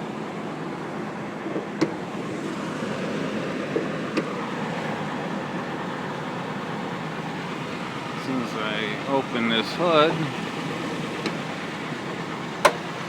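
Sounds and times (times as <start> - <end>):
car engine idling rough: 0.0 - 13.0.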